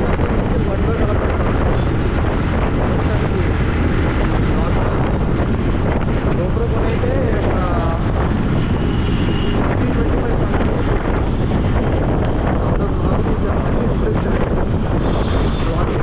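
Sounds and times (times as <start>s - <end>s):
road and traffic noise: 0.0s - 16.0s
wind buffeting microphone: 0.0s - 16.0s.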